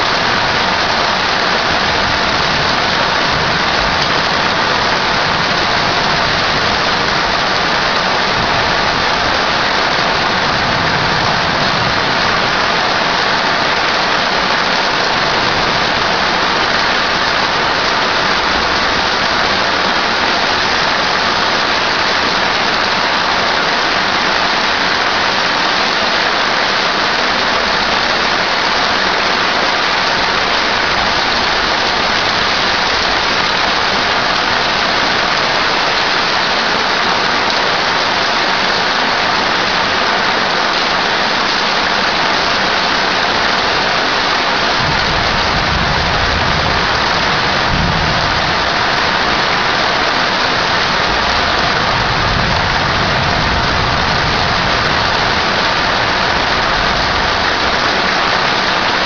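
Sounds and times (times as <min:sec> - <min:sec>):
heavy rain on street: 0:00.0 - 0:59.0.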